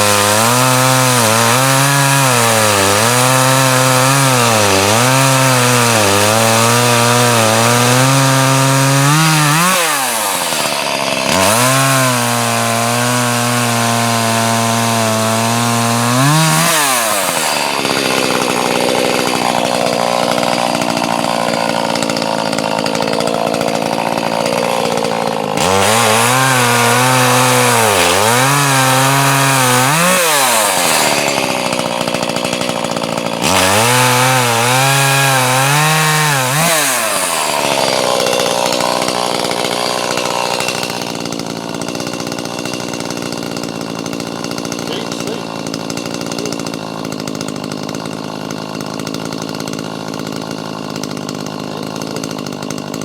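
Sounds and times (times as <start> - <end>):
chainsaw cutting logs: 0.0 - 53.0.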